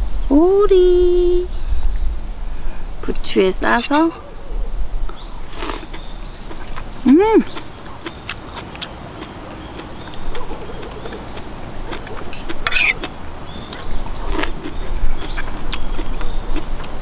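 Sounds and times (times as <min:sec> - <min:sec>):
small bird chirping: 0:02.8 - 0:17.0.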